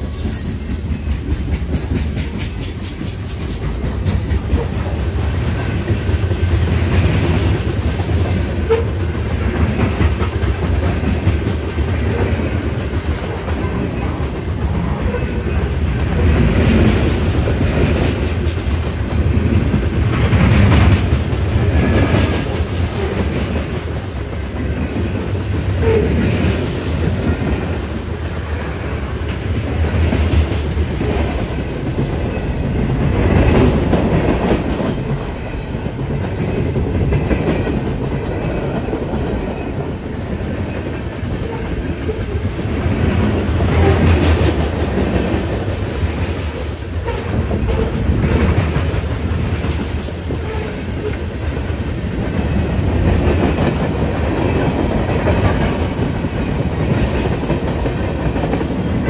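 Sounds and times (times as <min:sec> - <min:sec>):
train wheels clacking over rails: 0:00.0 - 0:59.0.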